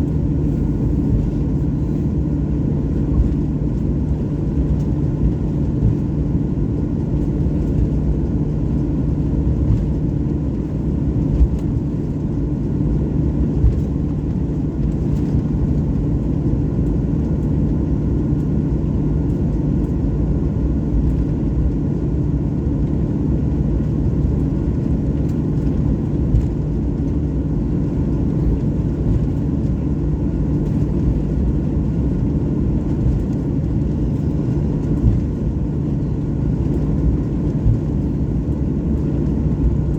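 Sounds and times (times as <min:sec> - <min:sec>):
jet airliner rumble: 0:00.0 - 0:39.9.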